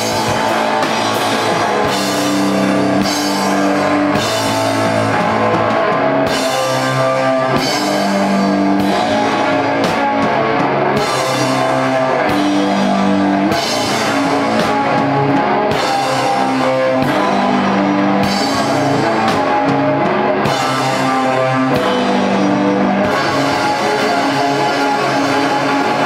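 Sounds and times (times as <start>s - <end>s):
drum kit: 0.0s - 26.0s
rock band playing live: 0.0s - 26.0s
sustained guitar chords: 0.0s - 26.0s.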